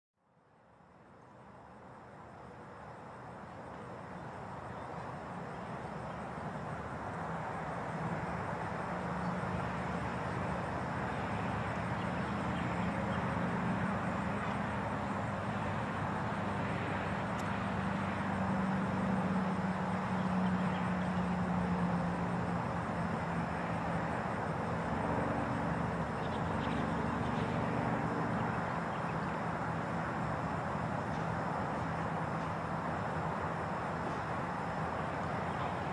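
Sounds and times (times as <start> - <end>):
highway traffic noise: 0.3 - 35.9.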